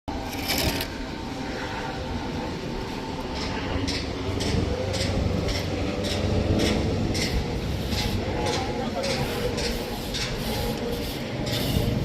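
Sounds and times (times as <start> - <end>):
steady low drone: 0.1 - 12.0.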